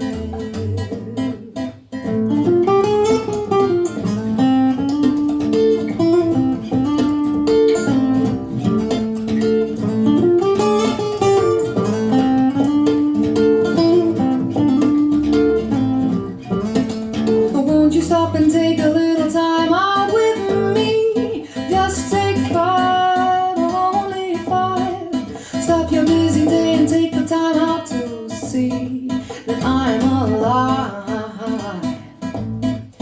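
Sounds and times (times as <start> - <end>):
acoustic guitar solo: 0.0 - 33.0
rhythmic accompaniment: 0.0 - 33.0.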